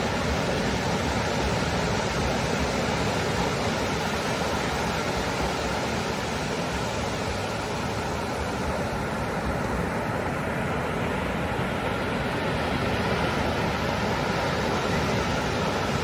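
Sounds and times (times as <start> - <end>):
water washing over sand: 0.0 - 16.0
waves breaking: 0.0 - 16.0.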